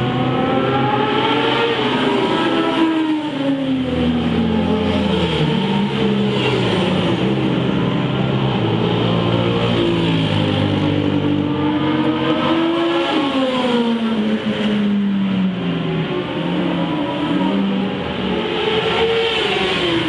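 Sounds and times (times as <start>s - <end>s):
race car engine: 0.0s - 20.0s
wind and road noise: 0.0s - 20.0s.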